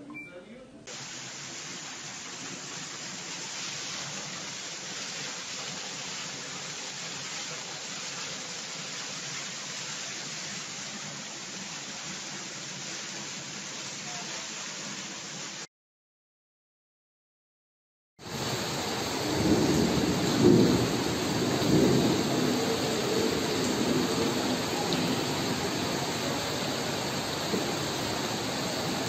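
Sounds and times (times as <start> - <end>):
water pouring onto tiled floor: 0.9 - 15.6, 18.3 - 29.0.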